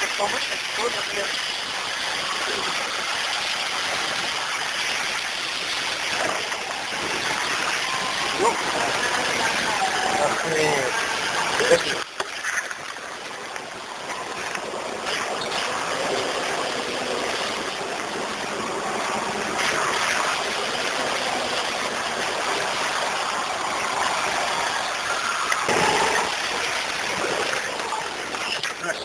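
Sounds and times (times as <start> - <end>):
water splashing around vehicle: 0.0 - 29.0.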